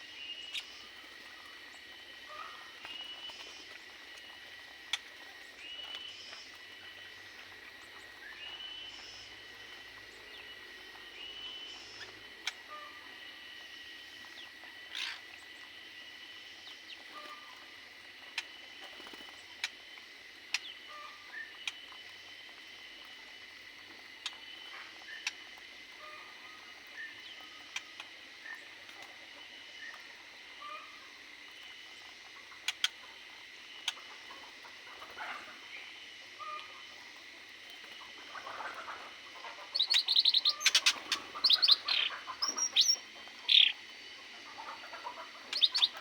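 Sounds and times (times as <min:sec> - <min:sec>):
small birds chirping: 0:00.0 - 0:13.1, 0:16.4 - 0:46.0.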